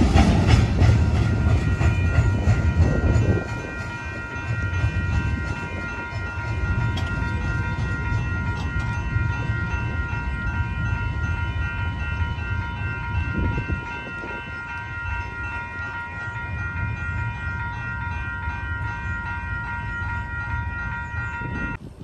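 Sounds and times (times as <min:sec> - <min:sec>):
freight train rumbling: 0:00.0 - 0:22.0
level crossing bell ringing: 0:01.3 - 0:21.8.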